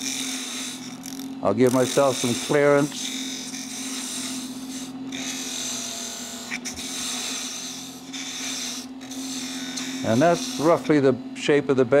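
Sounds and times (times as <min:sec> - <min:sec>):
turning tool scraping wood: 0:00.0 - 0:11.1
wood lathe humming: 0:00.0 - 0:11.8.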